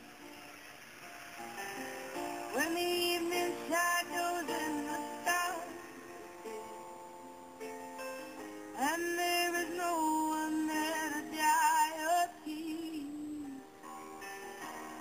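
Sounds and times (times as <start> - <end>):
pop song playing: 1.4 - 15.0.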